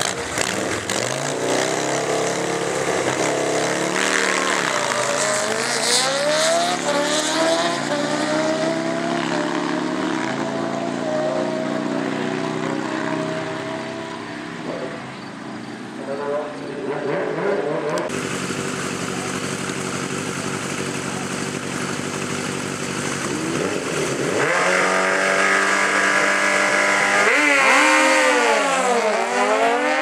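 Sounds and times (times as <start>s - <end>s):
motorcycles accelerating hard: 0.0s - 15.7s, 16.4s - 30.0s.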